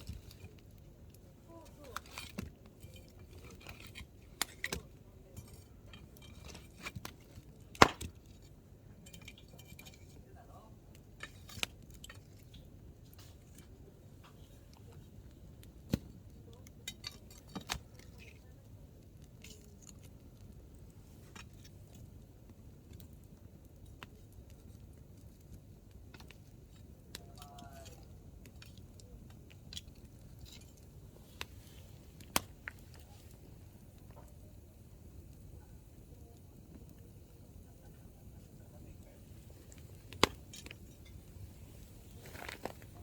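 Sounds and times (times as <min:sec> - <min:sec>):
campfire snapping and popping: 0:00.0 - 0:43.0.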